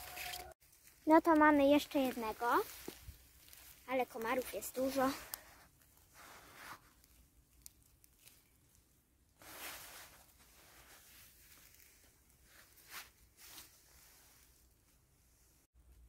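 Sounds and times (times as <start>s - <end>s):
rustling dry leaves: 0.0s - 14.8s.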